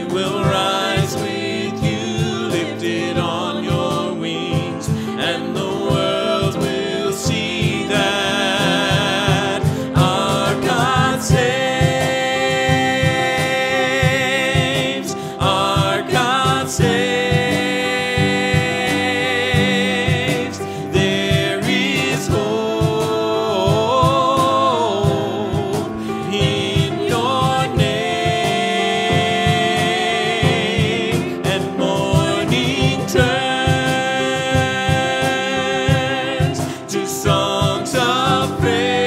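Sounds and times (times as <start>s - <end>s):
man singing lead: 0.0s - 39.0s
woman singing: 0.0s - 39.0s
worship band music: 0.0s - 39.0s.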